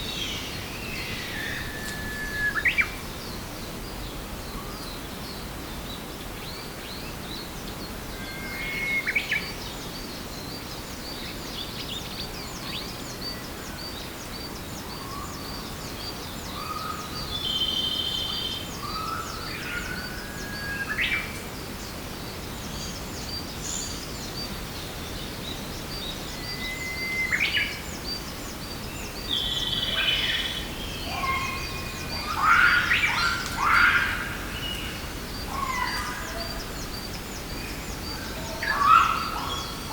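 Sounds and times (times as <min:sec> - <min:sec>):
forest birds calling: 0:00.0 - 0:39.9.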